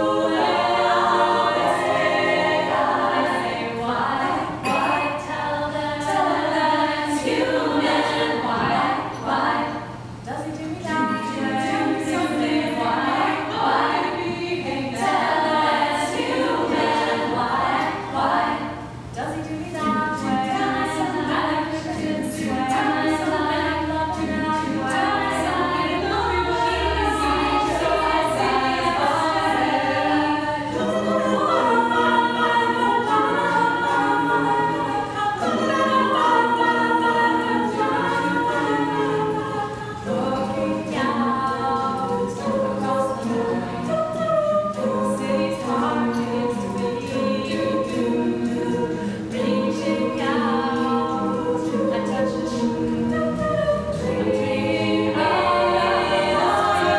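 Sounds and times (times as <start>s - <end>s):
a cappella group singing: 0.0s - 56.9s.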